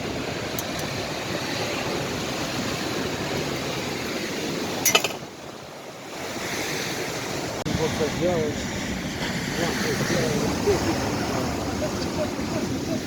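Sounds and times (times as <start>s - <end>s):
sea surf: 0.0s - 13.0s
wind on microphone: 0.0s - 13.0s.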